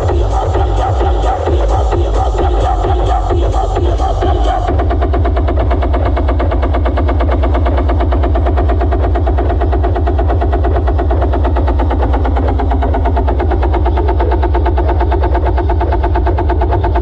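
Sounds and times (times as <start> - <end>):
low rumble: 0.0 - 17.0
pulsing deep bass: 0.0 - 17.0.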